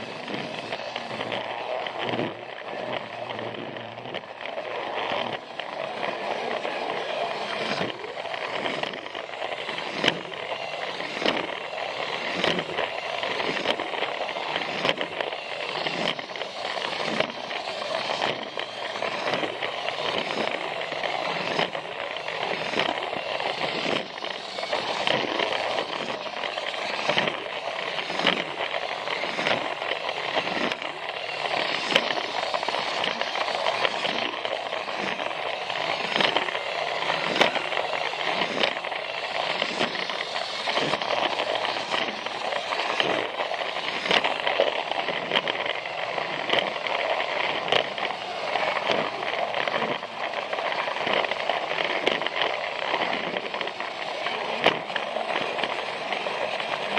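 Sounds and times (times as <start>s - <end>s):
plastic wheels clicking over track: 0.0s - 56.9s
toy train motor whirring: 0.0s - 56.9s.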